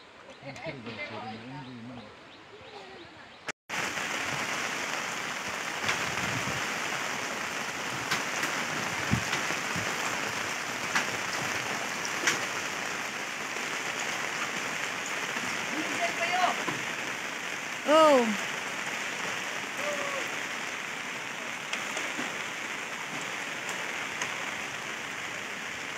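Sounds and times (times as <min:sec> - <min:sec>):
raindrops ticking: 0:03.7 - 0:25.9
steady rain hiss: 0:03.7 - 0:25.9.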